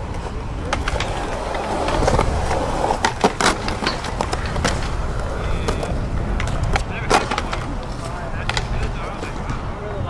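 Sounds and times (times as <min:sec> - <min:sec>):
skateboard deck clacking: 0:00.0 - 0:09.6
skateboard wheels on concrete: 0:00.0 - 0:10.0.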